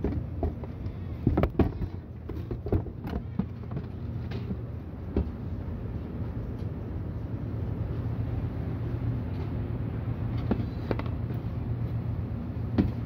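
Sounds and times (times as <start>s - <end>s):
supermarket background rumble: 0.0s - 13.0s.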